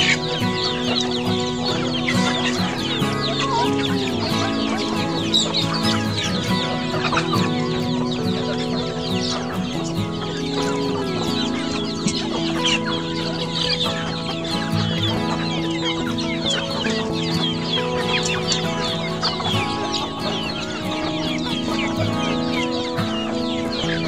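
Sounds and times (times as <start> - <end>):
chickens clucking and chicks peeping: 0.0 - 24.0
music of long held notes: 0.0 - 24.0.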